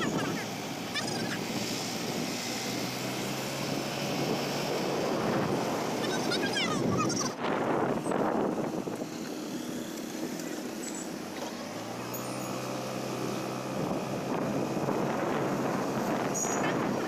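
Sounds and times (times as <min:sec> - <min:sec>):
wind rushing over microphone: 0:00.0 - 0:10.8, 0:13.1 - 0:17.0
scooter engine and road noise: 0:00.0 - 0:17.0.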